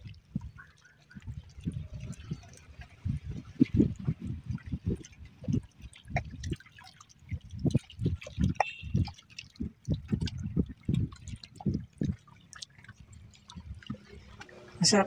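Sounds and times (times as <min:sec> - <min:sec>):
small waves lapping at shoreline: 0:00.0 - 0:15.0.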